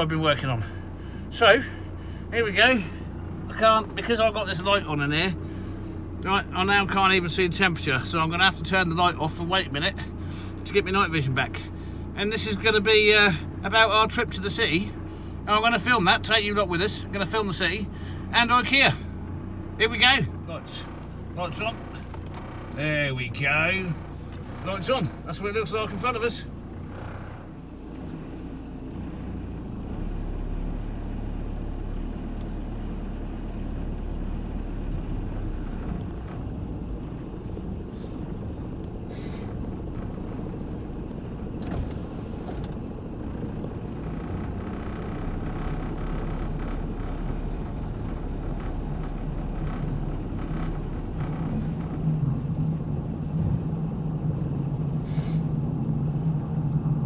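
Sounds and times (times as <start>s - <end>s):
van engine and road noise: 0.0s - 57.0s.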